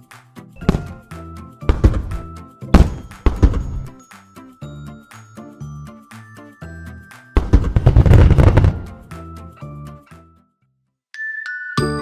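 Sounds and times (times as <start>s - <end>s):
light plucked background music: 0.0s - 10.5s, 11.8s - 12.0s.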